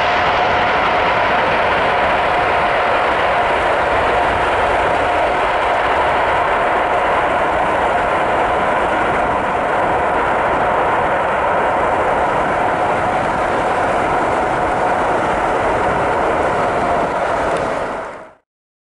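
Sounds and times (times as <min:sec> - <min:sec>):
jet engines roaring and whining: 0:00.0 - 0:18.4.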